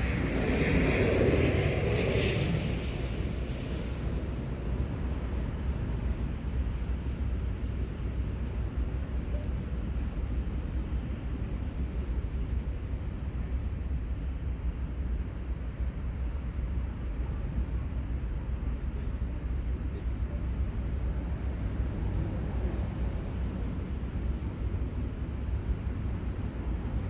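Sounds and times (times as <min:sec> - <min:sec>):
seaside ambience rumble: 0:00.0 - 0:27.0.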